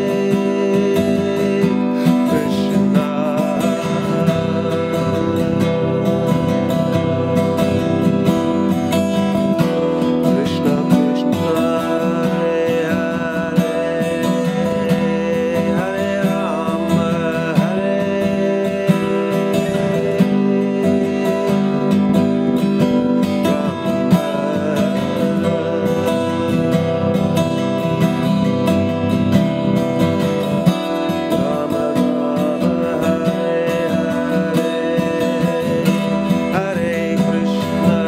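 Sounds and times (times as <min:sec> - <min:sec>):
acoustic guitar strumming chords: 0:00.0 - 0:38.0.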